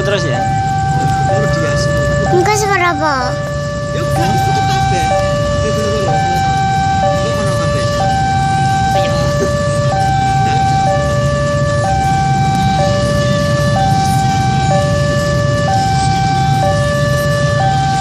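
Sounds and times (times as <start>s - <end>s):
two-tone level crossing alarm: 0.0s - 18.0s.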